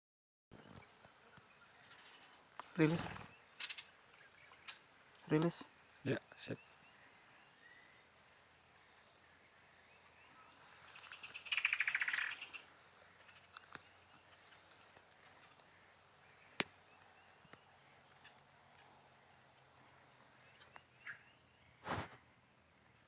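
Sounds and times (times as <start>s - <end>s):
high-pitched insect chorus: 0.6s - 23.0s.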